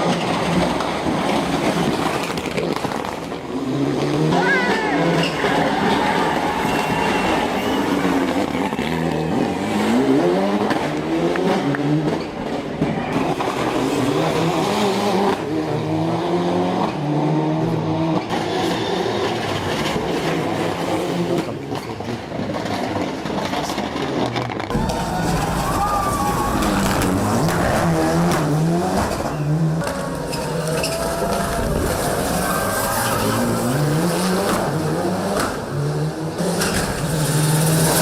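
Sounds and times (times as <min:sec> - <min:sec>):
turbocharged car engine revving: 0:00.0 - 0:12.5, 0:13.1 - 0:38.0.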